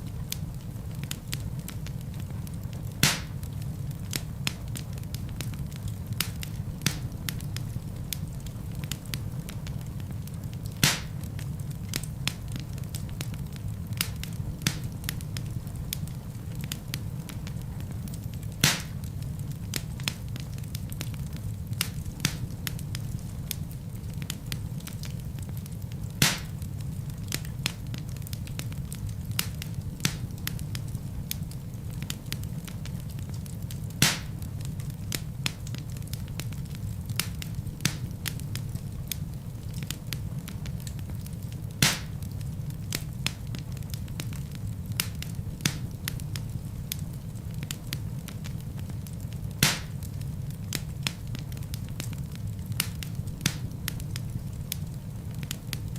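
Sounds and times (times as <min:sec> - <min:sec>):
loud pops of burning wood: 0:00.0 - 0:55.9
wood fire crackling: 0:00.0 - 0:55.9.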